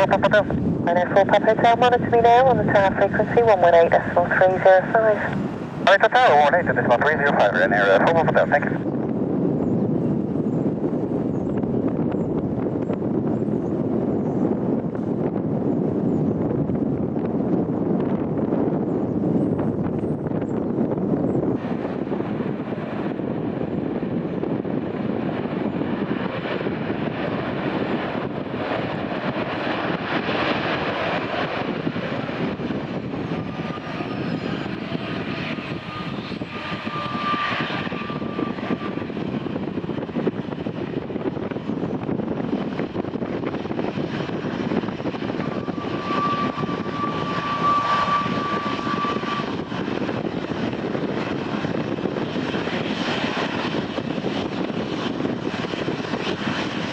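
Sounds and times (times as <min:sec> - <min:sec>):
jet engines rumbling: 0:00.0 - 0:56.9.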